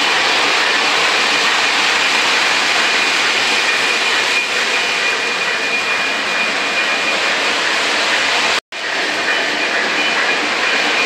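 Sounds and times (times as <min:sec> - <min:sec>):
model train rolling: 0:00.0 - 0:11.0.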